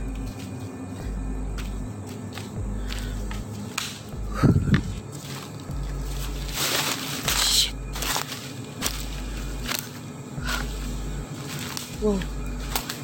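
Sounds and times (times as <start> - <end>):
footsteps crunching on dry leaves: 0.0 - 13.0.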